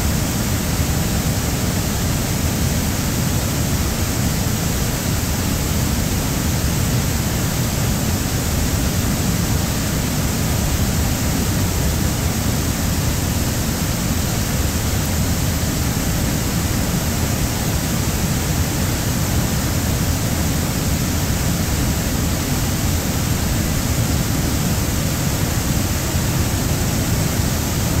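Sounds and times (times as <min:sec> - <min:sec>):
water rushing over dam spillway: 0:00.0 - 0:28.0.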